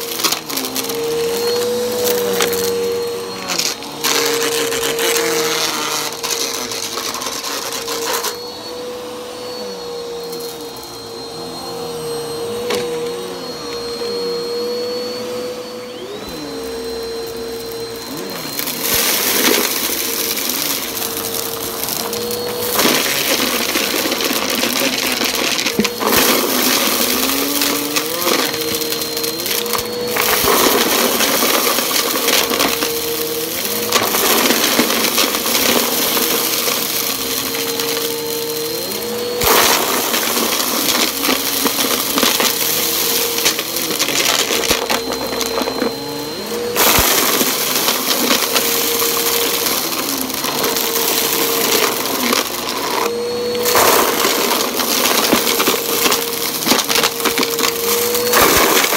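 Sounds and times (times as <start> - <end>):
vacuum cleaner motor hum: 0.0 - 58.9.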